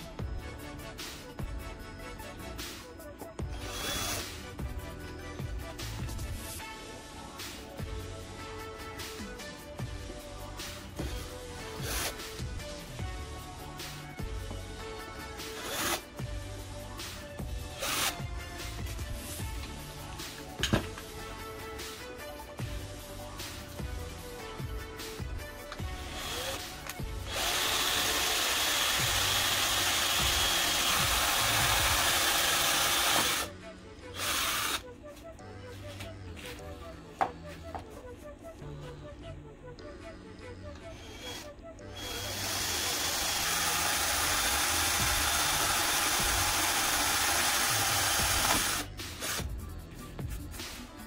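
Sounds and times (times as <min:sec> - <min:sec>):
background music: 0:00.0 - 0:51.0.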